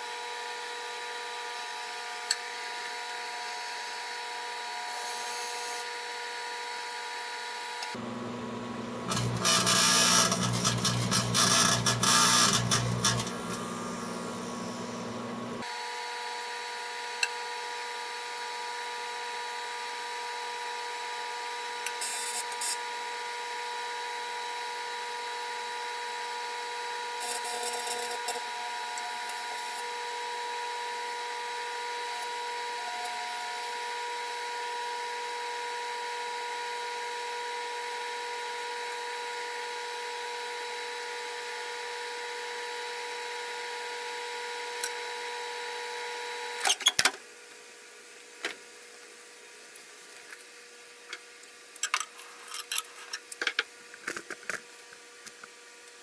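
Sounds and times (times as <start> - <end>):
microwave oven humming: 0.1 - 49.7.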